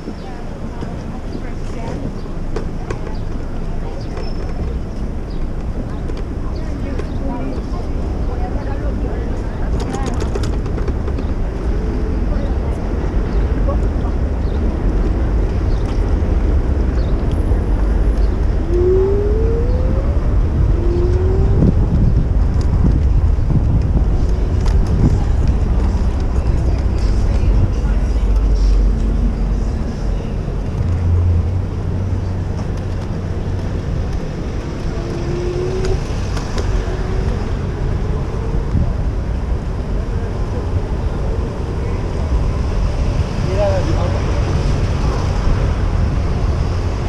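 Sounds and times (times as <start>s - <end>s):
city traffic rumble: 0.0s - 47.0s
wind buffeting microphone: 0.0s - 47.0s.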